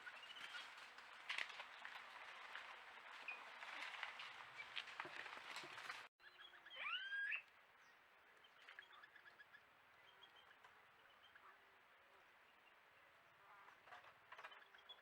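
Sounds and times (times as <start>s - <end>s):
forest background: 0.0s - 15.0s.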